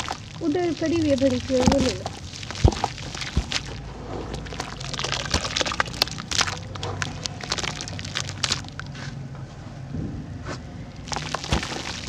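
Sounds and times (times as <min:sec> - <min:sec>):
cylinders crumbling in water: 0:00.0 - 0:09.0, 0:11.0 - 0:12.0.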